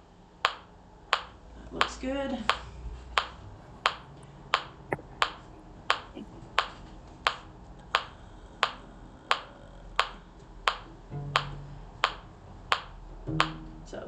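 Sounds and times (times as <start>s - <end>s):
metronome clicking: 0.4s - 13.9s.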